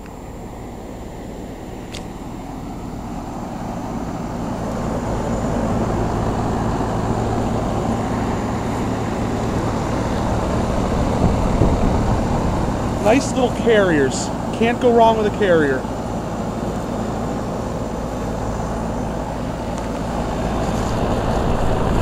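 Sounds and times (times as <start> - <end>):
air conditioner fan rushing: 0.0 - 22.0
low compressor hum: 0.0 - 22.0.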